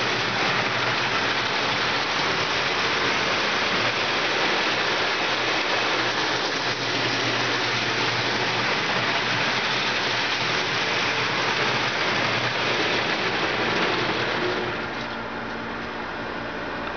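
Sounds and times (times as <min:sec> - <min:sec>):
toy train wheels rattling on rail: 0:00.0 - 0:15.2.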